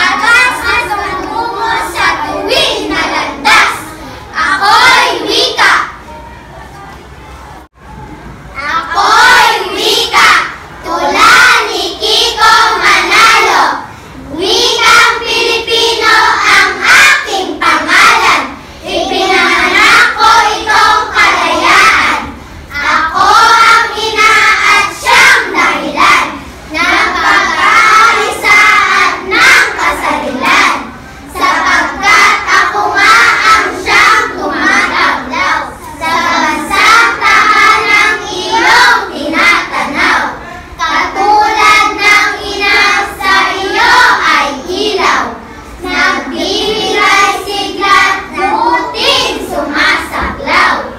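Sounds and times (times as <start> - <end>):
children reciting in unison: 0.0 - 6.9, 8.5 - 50.9.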